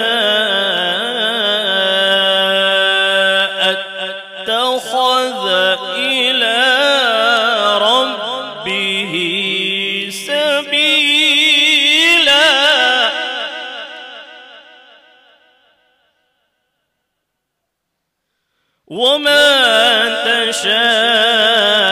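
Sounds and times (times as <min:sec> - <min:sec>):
man reciting melodically into microphone: 0:00.0 - 0:15.1, 0:18.8 - 0:21.9.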